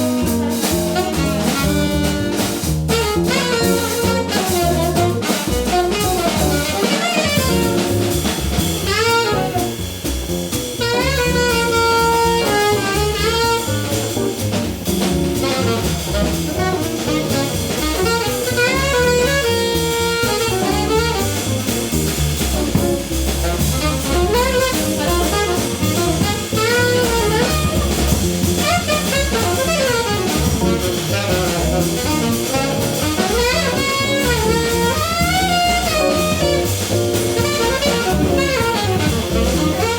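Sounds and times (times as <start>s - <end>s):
saxophone melody: 0.0s - 8.2s, 8.8s - 9.9s, 10.8s - 39.9s
bass: 0.0s - 39.9s
drum kit: 0.0s - 39.9s.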